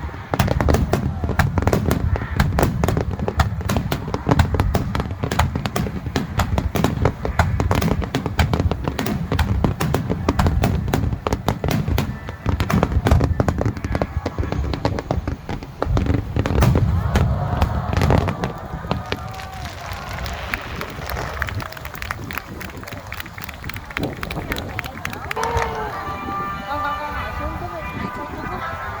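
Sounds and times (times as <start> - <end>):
low rumble of bursting shells: 0.0 - 25.3
fireworks crackling bangs: 0.0 - 28.6.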